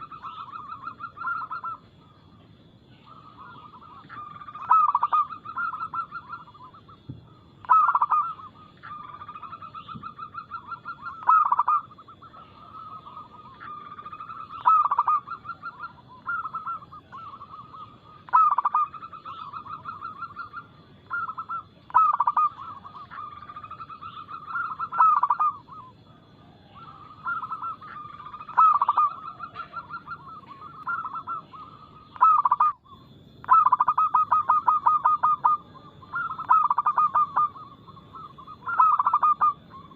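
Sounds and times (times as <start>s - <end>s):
doves cooing and trilling: 0.0s - 39.9s.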